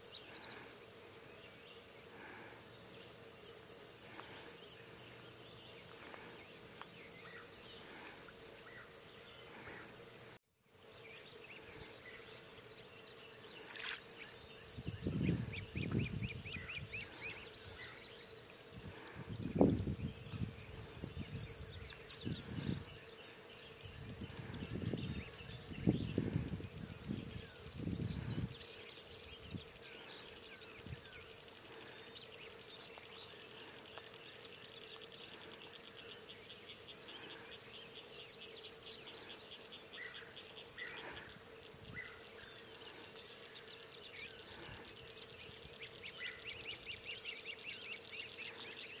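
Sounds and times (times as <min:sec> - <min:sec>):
faint steady hum: 0:00.0 - 0:49.0
high insect buzz: 0:00.0 - 0:49.0
small birds chirping: 0:00.0 - 0:49.0.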